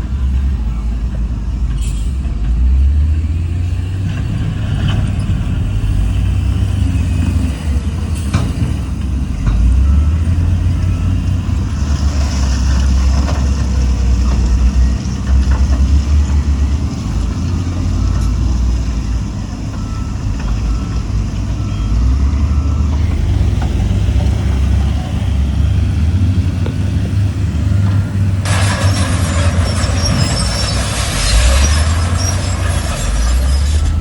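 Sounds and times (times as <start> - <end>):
diesel machinery engine rumble: 0.0 - 34.0.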